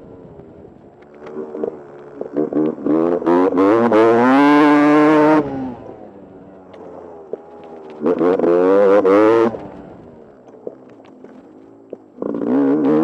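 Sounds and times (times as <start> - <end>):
motorcycle engine revving and burbling: 0.0 - 13.0.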